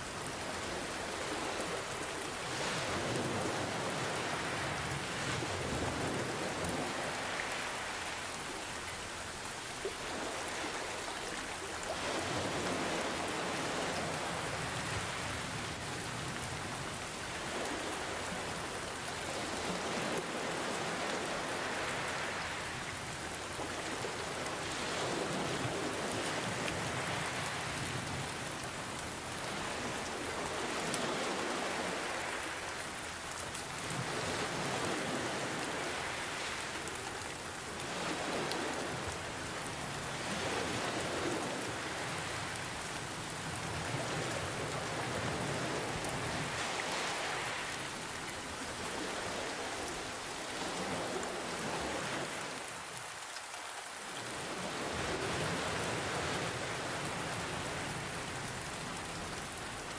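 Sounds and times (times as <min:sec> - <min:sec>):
gentle ocean waves: 0:00.0 - 0:59.9
steady rain: 0:00.0 - 0:59.9.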